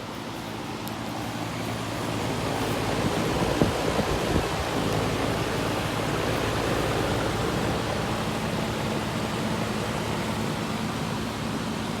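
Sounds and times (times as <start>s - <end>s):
fan air rushing: 0.0s - 12.0s.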